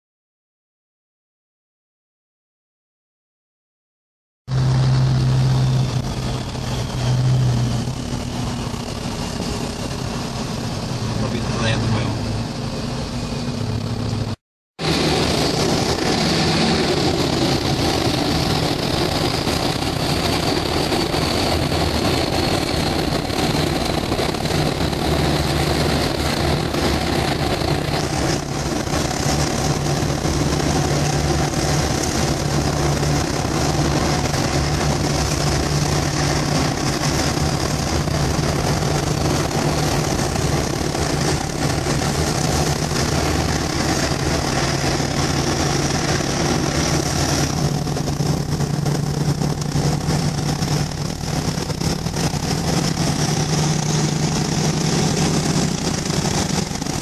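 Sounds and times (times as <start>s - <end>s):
diesel engine running: 4.5s - 57.0s.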